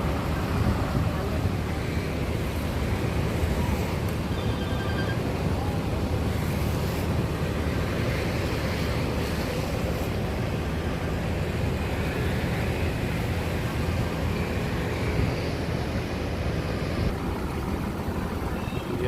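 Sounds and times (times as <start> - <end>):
bus engines idling: 0.0 - 19.0
wind buffeting microphone: 0.0 - 19.0.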